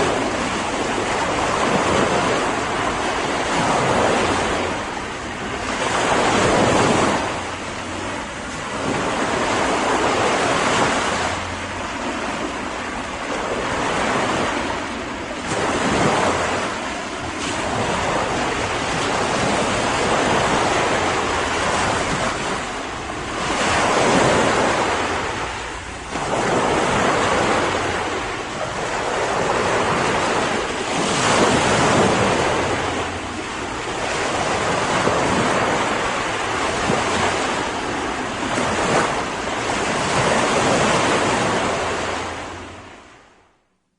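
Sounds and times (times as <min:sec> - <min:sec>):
wind noise on microphone: 0:00.0 - 0:43.5
sea waves breaking: 0:00.0 - 0:43.6.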